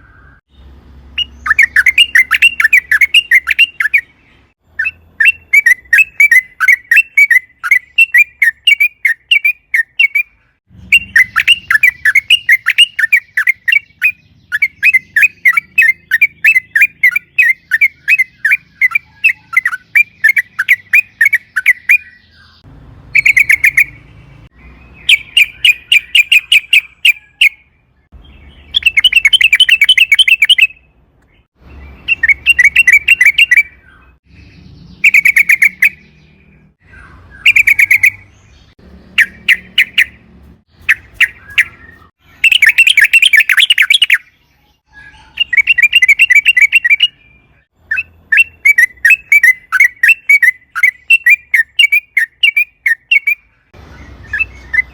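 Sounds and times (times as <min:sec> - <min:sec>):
bird singing chattering notes: 0:00.0 - 0:54.9.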